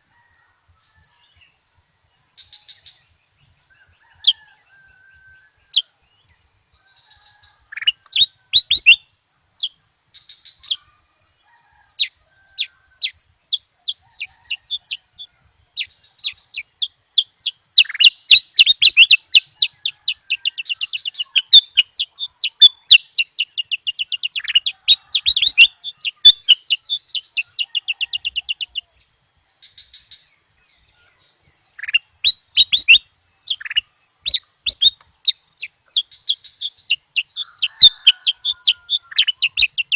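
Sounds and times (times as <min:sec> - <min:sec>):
bird chirping: 0:07.1 - 0:11.2, 0:12.0 - 0:39.9.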